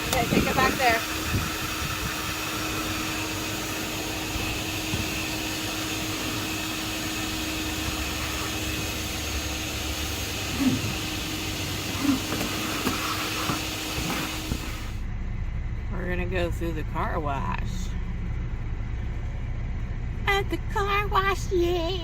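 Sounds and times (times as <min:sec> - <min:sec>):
van engine running: 0:00.0 - 0:22.0.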